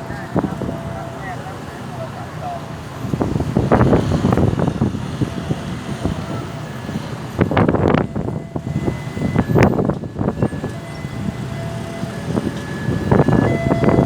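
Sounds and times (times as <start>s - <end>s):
road traffic: 0.0s - 14.0s
wind buffeting microphone: 0.0s - 14.0s.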